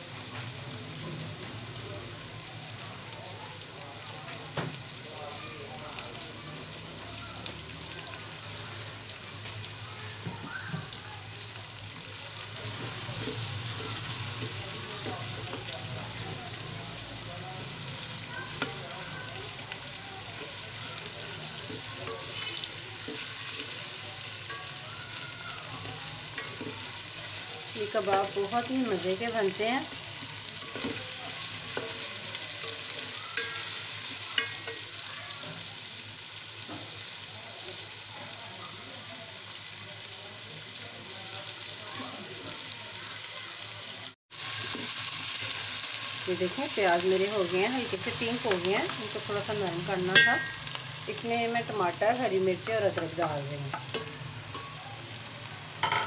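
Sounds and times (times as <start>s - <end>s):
onions sizzling in hot oil: 0.0s - 56.0s.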